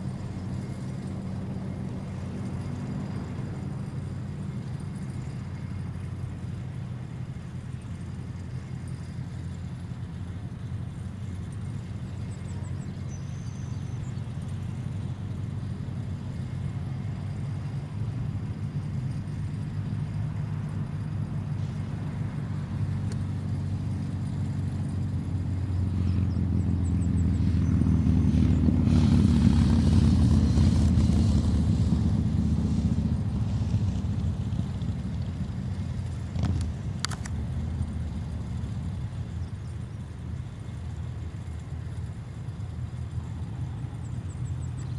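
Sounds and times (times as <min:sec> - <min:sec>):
engine droning: 0:00.0 - 0:44.9.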